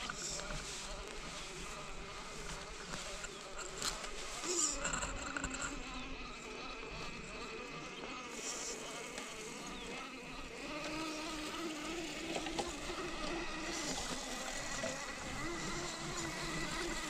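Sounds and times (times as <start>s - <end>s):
rc car motor buzzing: 0.0s - 17.0s.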